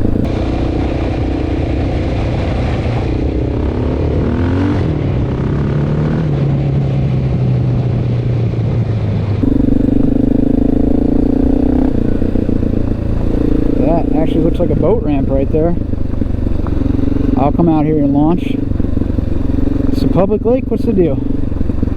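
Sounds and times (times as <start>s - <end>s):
motorcycle engine running: 0.0s - 6.2s, 9.4s - 21.9s.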